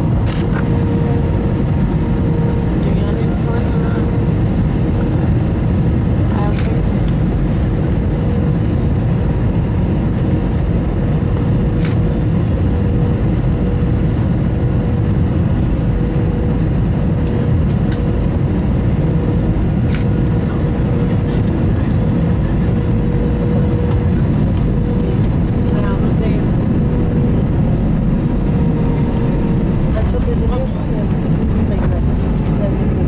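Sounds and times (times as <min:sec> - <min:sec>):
constant humming tone: 0:00.0 - 0:33.0
loud rumble of engines and airflow: 0:00.0 - 0:33.0.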